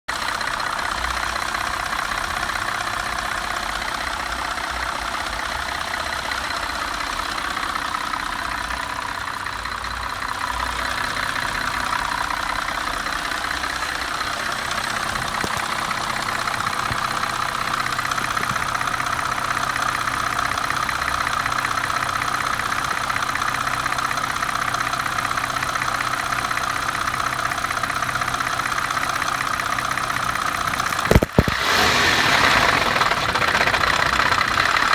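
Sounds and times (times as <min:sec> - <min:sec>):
car engine idling: 0:00.1 - 0:34.9
rapid engine ticking: 0:00.1 - 0:34.9.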